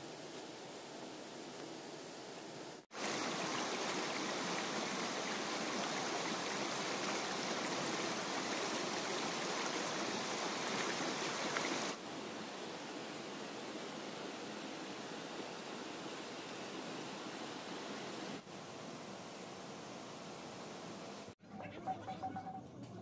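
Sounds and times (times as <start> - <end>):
running water: 2.8 - 22.6.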